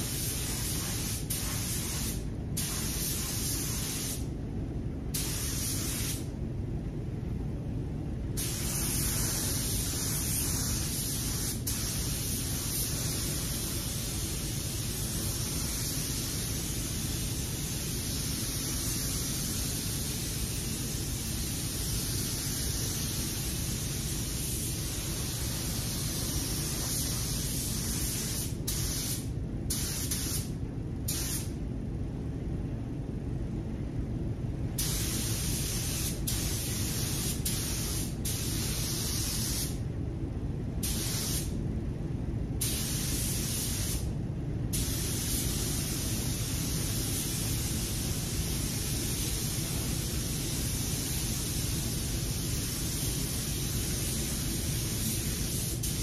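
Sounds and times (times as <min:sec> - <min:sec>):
spray gun hissing: 0:00.0 - 0:04.2, 0:05.2 - 0:06.3, 0:08.4 - 0:30.5, 0:31.1 - 0:31.5, 0:34.8 - 0:39.8, 0:40.8 - 0:41.5, 0:42.6 - 0:44.1, 0:44.7 - 0:56.0
low steady air rush: 0:00.0 - 0:56.0.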